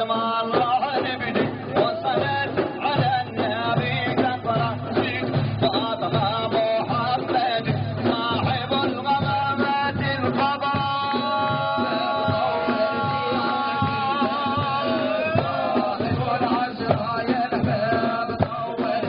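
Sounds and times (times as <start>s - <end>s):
frame drums beating: 0.0s - 19.0s
person singing: 0.0s - 19.0s.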